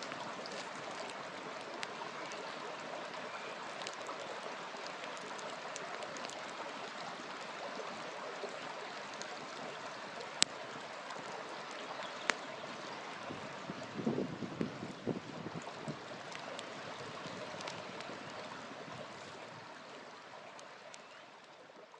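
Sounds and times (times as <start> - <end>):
river water rushing: 0.0 - 14.4, 15.1 - 21.8
wood fire crackling: 0.0 - 21.5.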